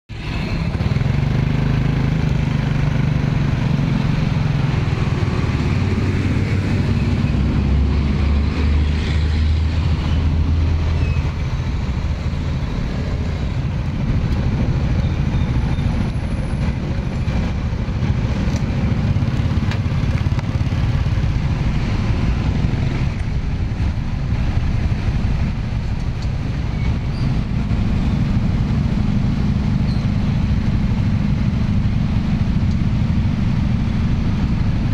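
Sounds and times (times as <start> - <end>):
engine hum: 0.1 - 34.9
motor traffic rumble: 0.1 - 34.9.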